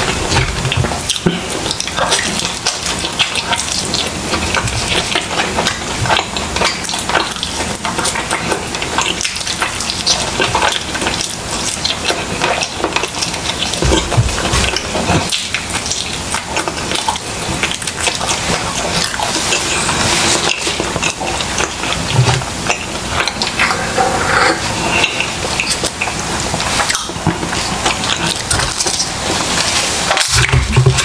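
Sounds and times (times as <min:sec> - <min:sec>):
wet smacking chewing: 0:00.0 - 0:31.0.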